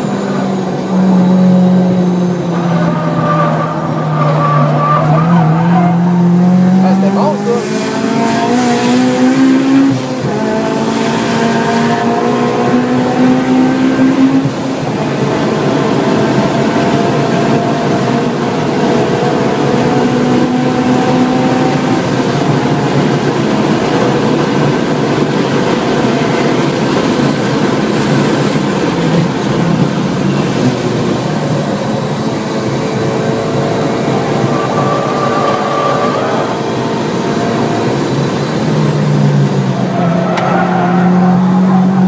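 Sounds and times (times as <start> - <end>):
car engine at high revs: 0.0 - 42.0
road noise: 0.0 - 42.0.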